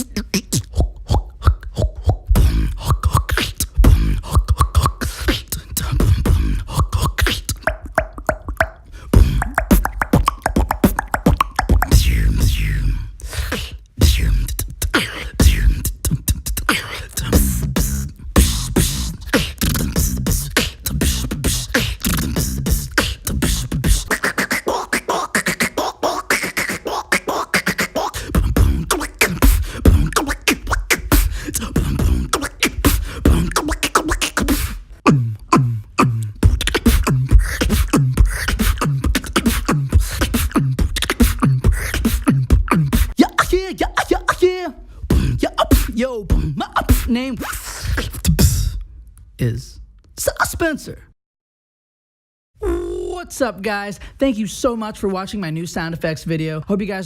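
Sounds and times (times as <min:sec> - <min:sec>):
gliding pitched vocal tones: 0:00.0 - 0:13.1, 0:14.0 - 0:48.2
person beatboxing: 0:00.0 - 0:48.8.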